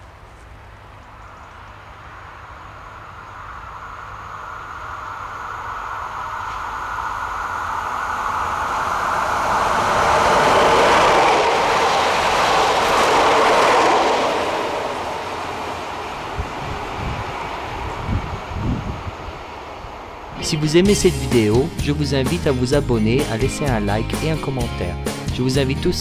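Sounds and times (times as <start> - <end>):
train passing by: 0.0 - 26.0.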